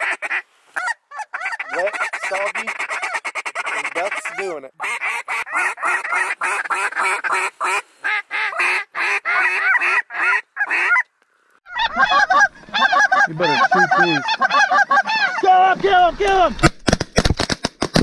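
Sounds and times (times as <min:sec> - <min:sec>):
geese honking: 0:00.0 - 0:11.1, 0:11.7 - 0:16.4.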